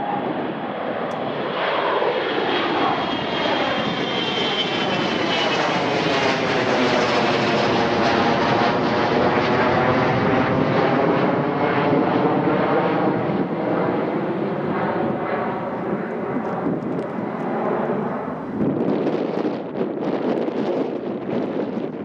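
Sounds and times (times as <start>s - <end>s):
jet engines passing: 0.0s - 22.0s
wind buffeting microphone: 0.0s - 22.0s.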